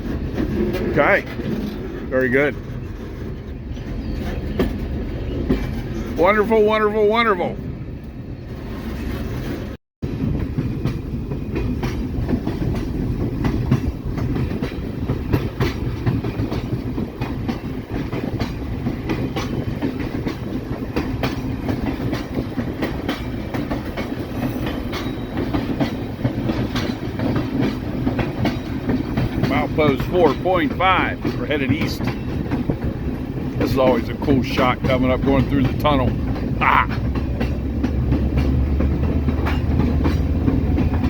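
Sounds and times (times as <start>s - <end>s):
diesel locomotive engine running: 0.0s - 41.0s
train wheels clicking over rail joints: 0.0s - 41.0s.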